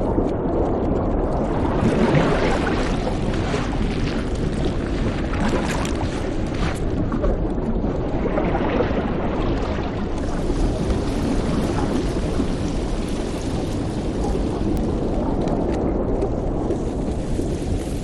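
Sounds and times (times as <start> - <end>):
underwater rumbling ambience: 0.0 - 18.0.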